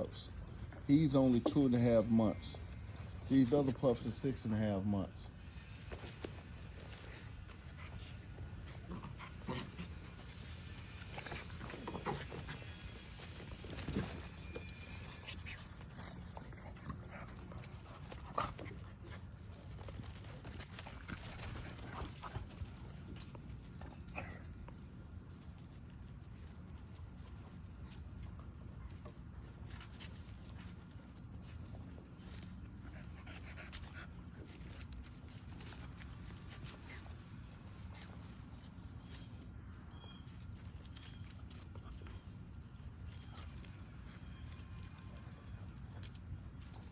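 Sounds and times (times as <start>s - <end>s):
puppies moving about: 0.0s - 26.5s, 29.0s - 42.2s
insects chirring: 0.0s - 46.9s.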